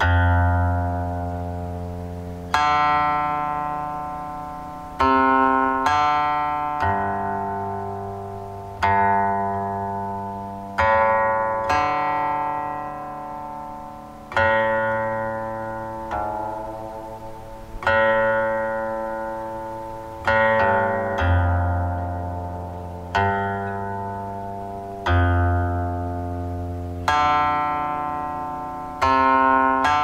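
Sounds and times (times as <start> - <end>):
zither playing slow melody: 0.0 - 30.0.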